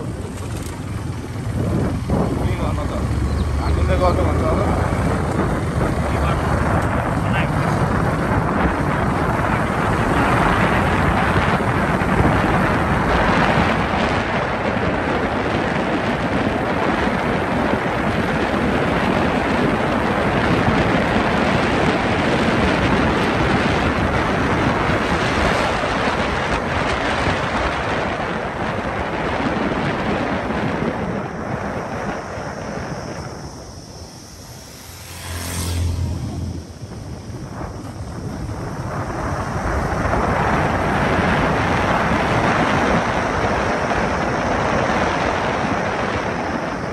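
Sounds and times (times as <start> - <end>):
motorbike riding noise: 0.0 - 46.9
wind buffeting microphone: 0.0 - 46.9.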